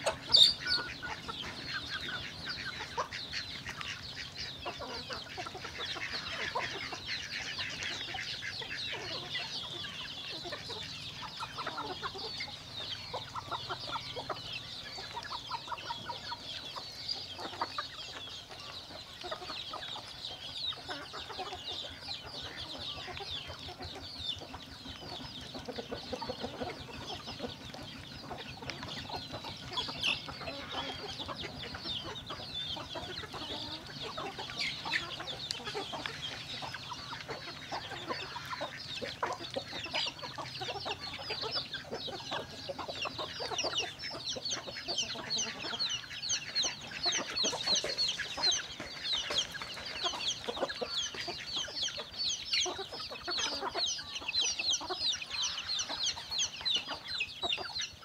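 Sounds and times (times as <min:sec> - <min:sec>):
chickens clucking and calling: 0:00.0 - 0:58.0.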